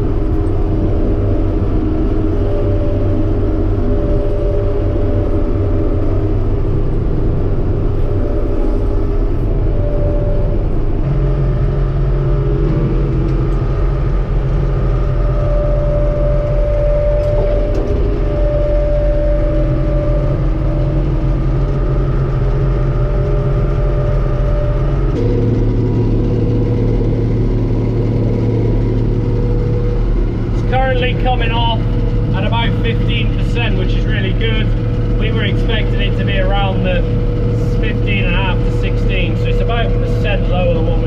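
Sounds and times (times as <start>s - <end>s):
combine harvester engine drone: 0.0s - 41.0s
threshing machinery whine: 0.0s - 41.0s.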